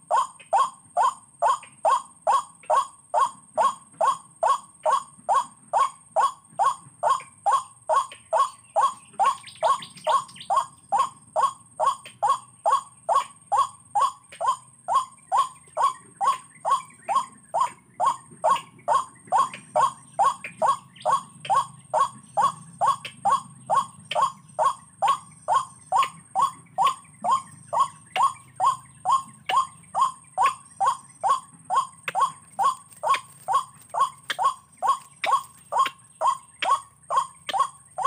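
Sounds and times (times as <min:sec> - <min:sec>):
waterhen calling: 0:00.0 - 0:38.0.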